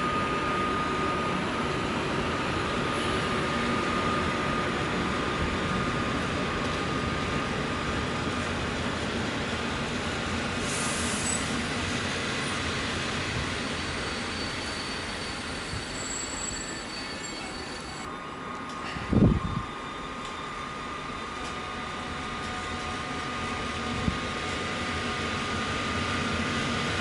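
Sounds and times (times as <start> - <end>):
train wheels rolling on rails: 1.2 - 27.0.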